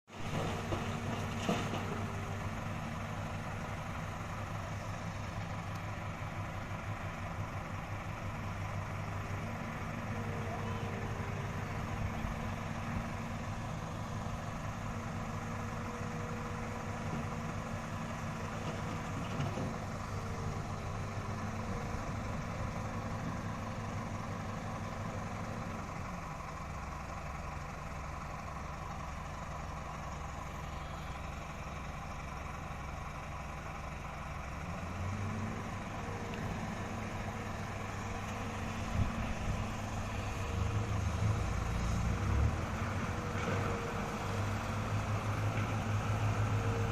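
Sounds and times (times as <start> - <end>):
truck engine running: 0.2 - 46.9.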